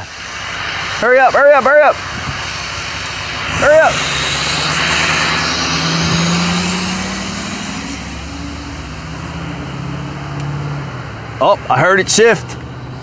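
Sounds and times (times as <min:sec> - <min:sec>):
high whine rising in pitch: 0:00.0 - 0:12.2
diesel engine pulling away: 0:00.0 - 0:13.0.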